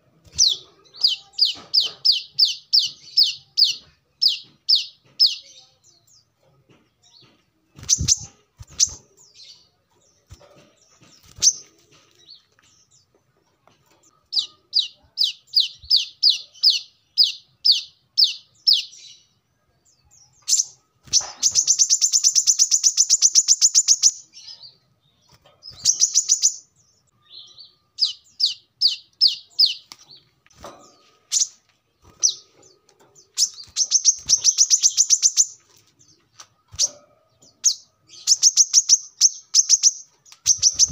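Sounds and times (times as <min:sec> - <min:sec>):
bird singing high chirps: 0:00.3 - 0:06.3, 0:07.0 - 0:13.1, 0:14.2 - 0:30.3, 0:31.3 - 0:40.9.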